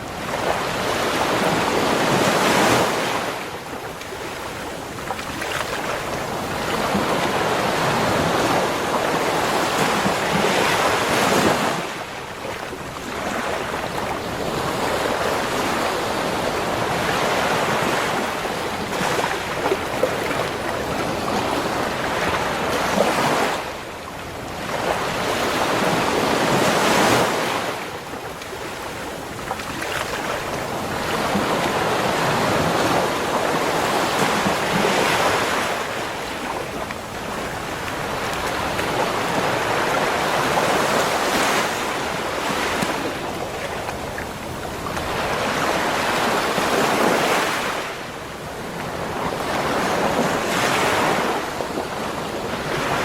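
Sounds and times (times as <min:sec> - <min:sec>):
ocean waves washing onto shore: 0:00.0 - 0:53.0.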